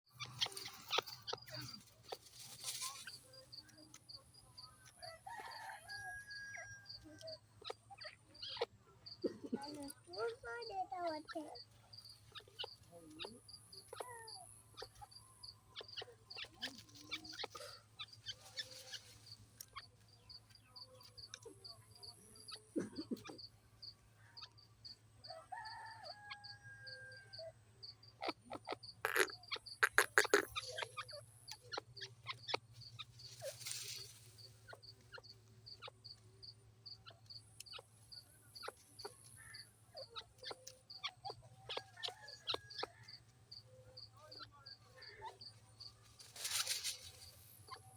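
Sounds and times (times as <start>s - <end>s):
partridge calling: 0.1s - 24.9s, 27.3s - 47.9s.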